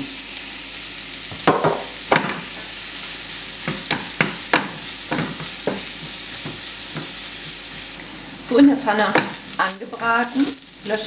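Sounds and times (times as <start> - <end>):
leek sizzling in hot oil: 0.0 - 11.0.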